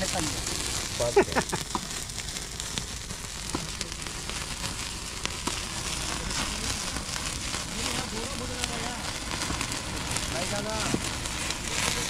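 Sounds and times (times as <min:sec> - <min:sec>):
sharp pops: 0:00.0 - 0:12.0
wood fire crackling and hissing: 0:00.0 - 0:12.0.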